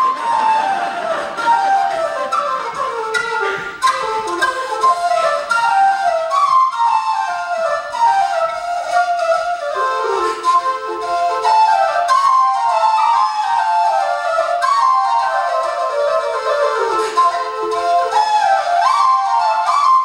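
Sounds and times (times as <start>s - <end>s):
tin whistles playing folk tune: 0.0s - 20.0s.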